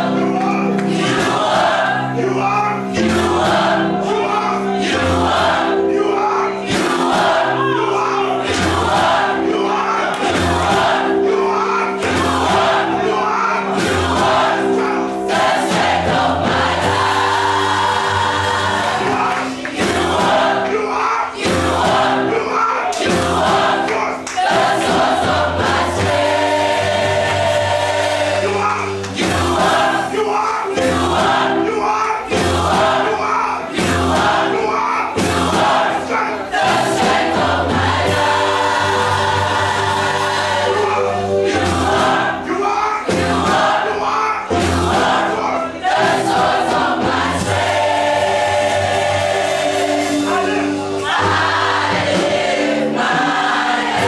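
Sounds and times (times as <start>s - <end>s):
choir singing in harmony: 0.0s - 54.0s
instrumental accompaniment: 0.0s - 54.0s.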